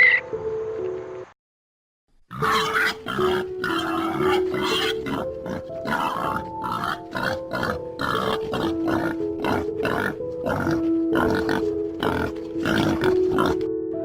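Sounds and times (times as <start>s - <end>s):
background music with held notes: 0.0s - 1.4s, 2.4s - 14.0s
animal grunting: 2.3s - 13.7s.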